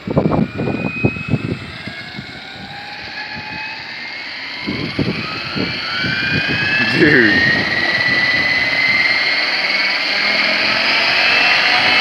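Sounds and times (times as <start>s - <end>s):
helicopter motor and rotor whine: 0.0s - 12.0s
rotor wash buffeting microphone: 0.0s - 12.0s.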